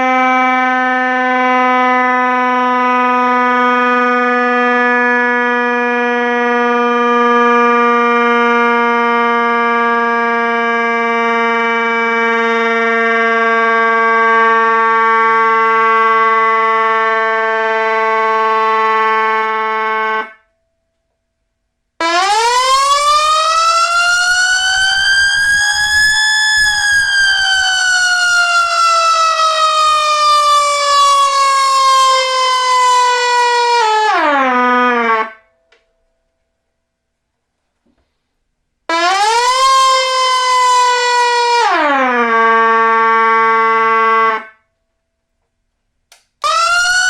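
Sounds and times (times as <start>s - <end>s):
steady siren tone: 0.0s - 20.5s, 22.0s - 35.5s, 38.9s - 44.6s, 46.4s - 47.0s.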